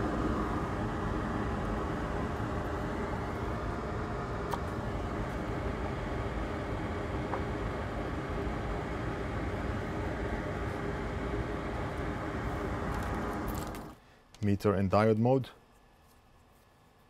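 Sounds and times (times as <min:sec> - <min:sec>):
fan motor whirring: 0:00.0 - 0:14.6.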